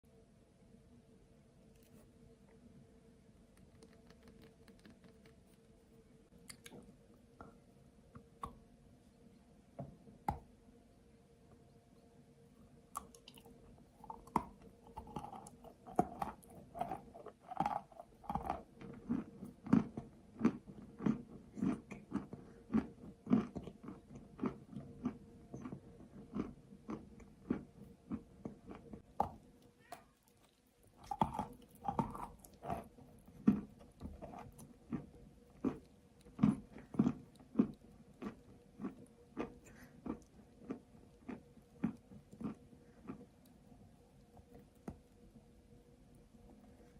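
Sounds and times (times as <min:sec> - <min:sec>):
faint hum: 0:00.0 - 0:46.9
crunchy chewing: 0:01.6 - 0:02.1, 0:03.4 - 0:07.6, 0:12.9 - 0:46.9.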